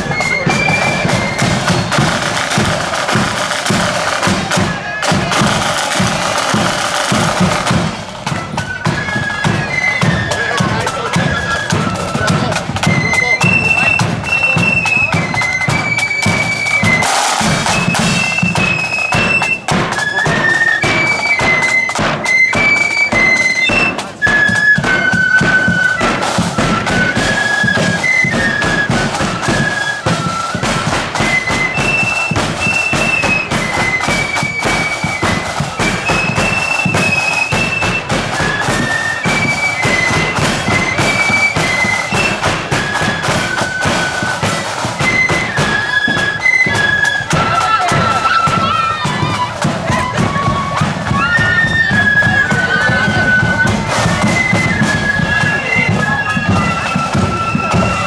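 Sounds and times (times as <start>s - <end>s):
shrill flutes playing march: 0.0s - 58.0s
side drums: 0.0s - 58.0s.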